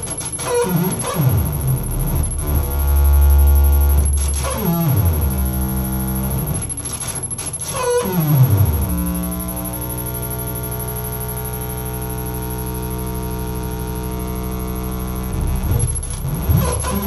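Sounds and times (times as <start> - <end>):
electronic drone with overtones: 0.0 - 17.0.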